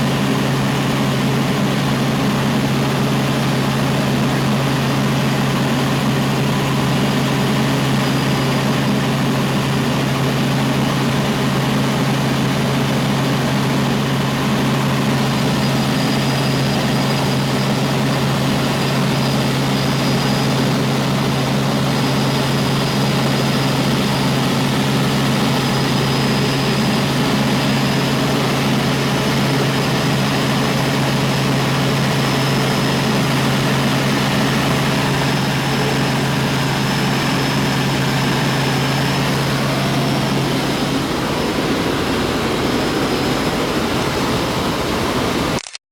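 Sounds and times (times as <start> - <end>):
high turbine whine: 0.0 - 45.7
helicopter engine and rotor drone: 0.0 - 45.8.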